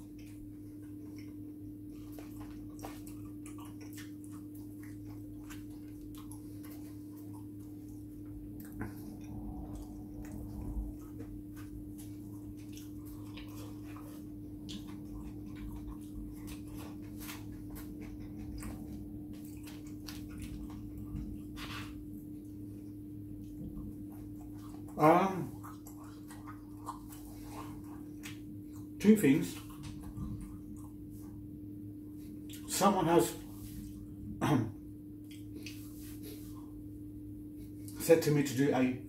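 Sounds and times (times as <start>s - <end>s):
chewing and mouth noises: 0.0s - 34.4s, 35.0s - 38.3s
steady low hum: 0.0s - 39.0s.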